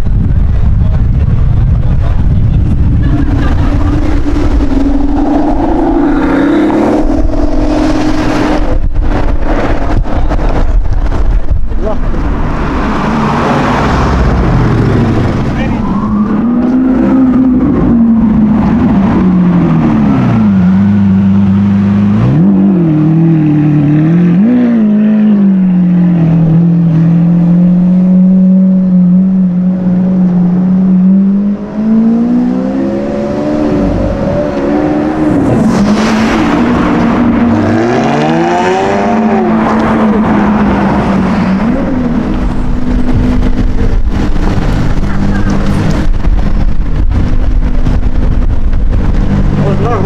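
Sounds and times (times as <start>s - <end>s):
sports car engine idling and revving: 0.0s - 50.0s.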